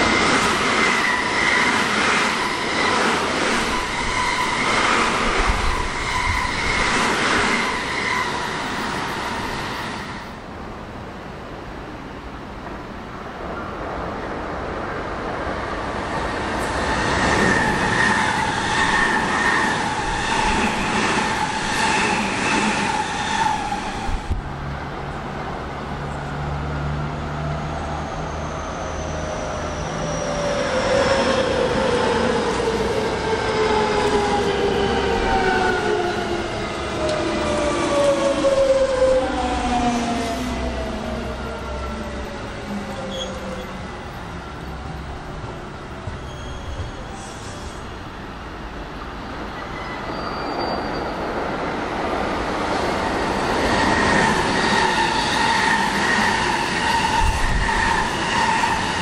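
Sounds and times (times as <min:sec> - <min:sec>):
low train hum: 0:00.0 - 0:59.0.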